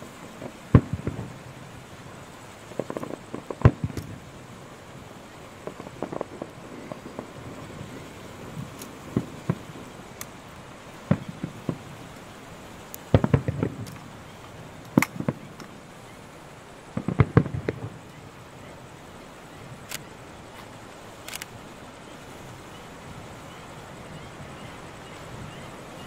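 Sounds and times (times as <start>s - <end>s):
distant fireworks exploding: 0.0s - 26.0s.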